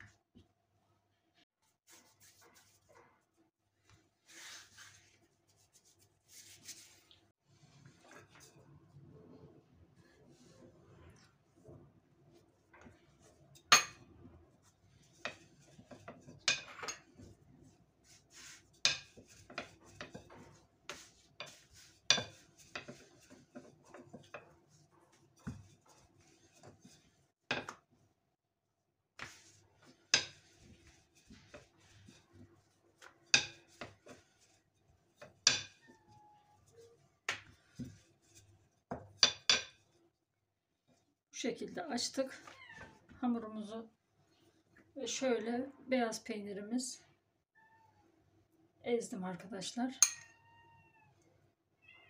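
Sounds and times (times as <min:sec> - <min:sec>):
soft rubbing of dough: 0:00.1 - 0:13.6, 0:14.2 - 0:45.2.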